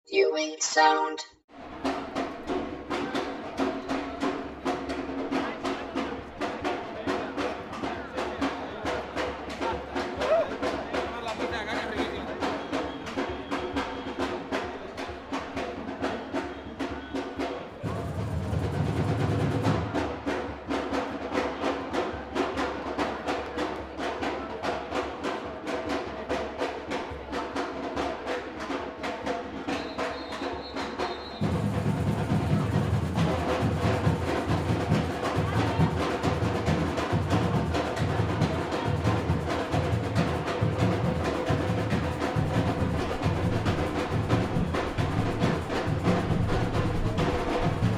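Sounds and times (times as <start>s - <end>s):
drums beaten in fast rhythm: 1.5s - 47.9s.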